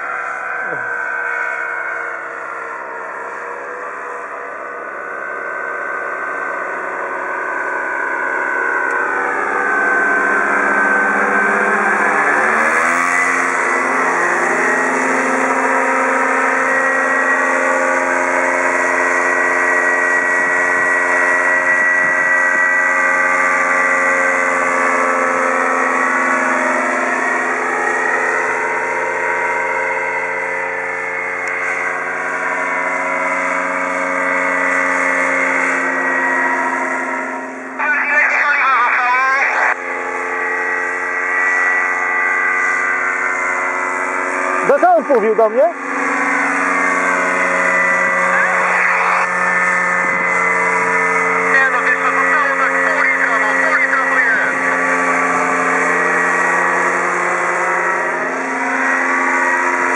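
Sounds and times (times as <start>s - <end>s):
paramotor engine droning: 0.0s - 59.9s.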